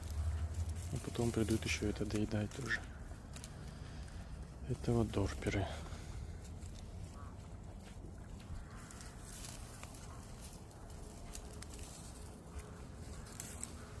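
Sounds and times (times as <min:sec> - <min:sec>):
sheep eating hay: 0:00.0 - 0:14.0
steady low rumble: 0:00.0 - 0:14.0.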